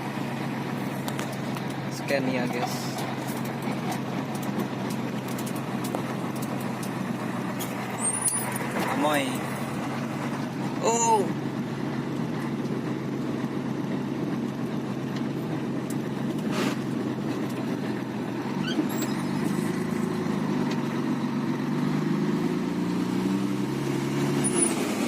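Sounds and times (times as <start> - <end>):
truck diesel engine driving: 0.0 - 25.0.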